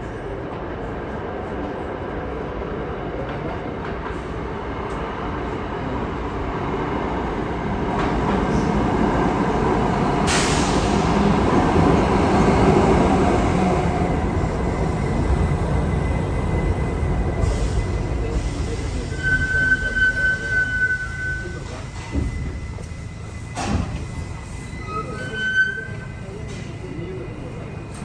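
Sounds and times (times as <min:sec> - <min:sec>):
subway train rumbling on tracks: 0:00.0 - 0:28.0.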